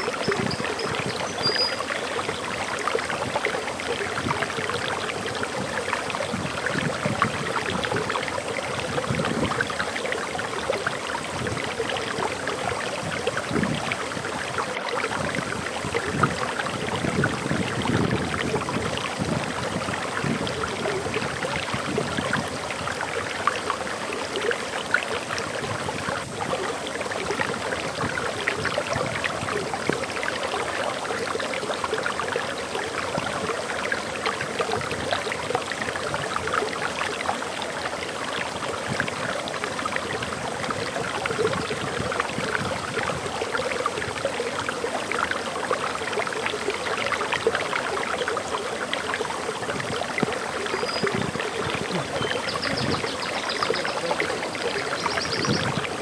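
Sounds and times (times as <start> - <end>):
water splashing over waterfall: 0.0 - 56.0.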